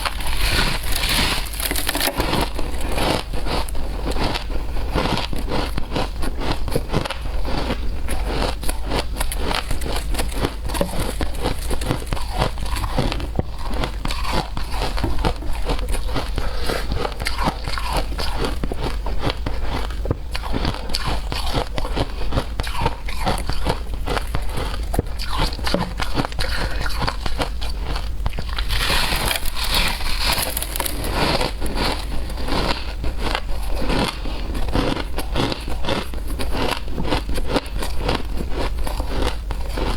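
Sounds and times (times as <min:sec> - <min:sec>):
shaved ice being chewed: 0:00.0 - 0:39.9.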